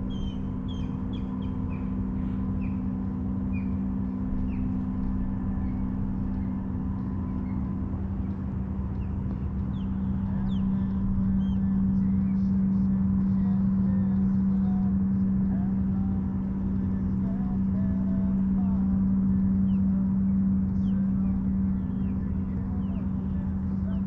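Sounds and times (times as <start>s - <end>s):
small birds chirping: 0.0s - 14.9s, 15.5s - 24.0s
boat motor running: 0.0s - 24.0s.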